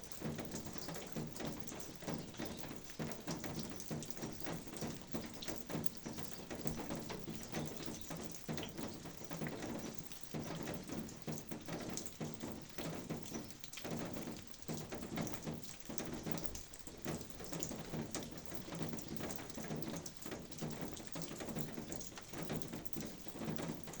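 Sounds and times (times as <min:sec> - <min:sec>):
rain drops ticking on surfaces: 0:00.0 - 0:24.0.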